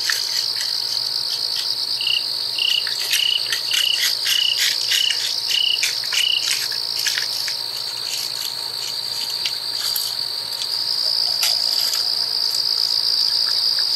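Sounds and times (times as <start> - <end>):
crickets trilling: 0.0 - 13.9.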